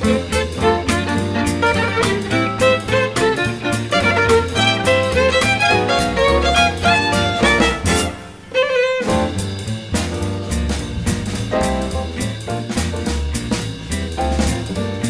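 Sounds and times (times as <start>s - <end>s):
background music with beat: 0.0s - 8.4s, 9.0s - 15.0s.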